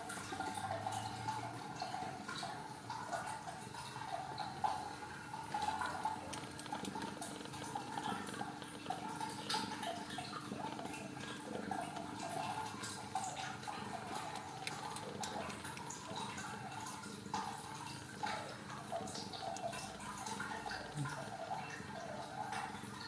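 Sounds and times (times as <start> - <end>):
kittens suckling wet clicks: 0.1 - 23.0.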